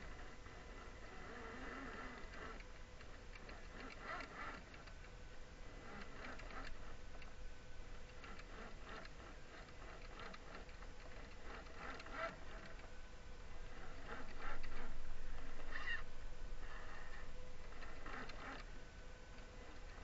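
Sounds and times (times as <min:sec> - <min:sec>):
small electric motor whining: 0:00.0 - 0:20.0
tires ticking and clicking on rock: 0:00.1 - 0:20.0.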